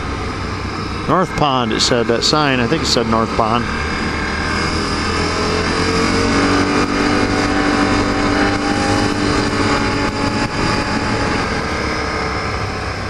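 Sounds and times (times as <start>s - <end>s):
atv engine running: 0.0s - 13.0s
broad rushing noise: 0.0s - 13.0s.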